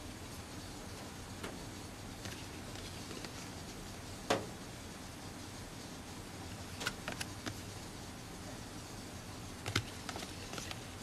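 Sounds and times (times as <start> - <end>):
background hiss and hum: 0.0 - 11.0.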